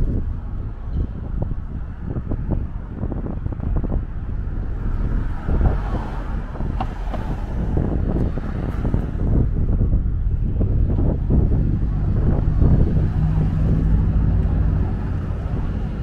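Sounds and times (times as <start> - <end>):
city street traffic: 0.0 - 16.0
wind buffeting microphone: 0.0 - 16.0.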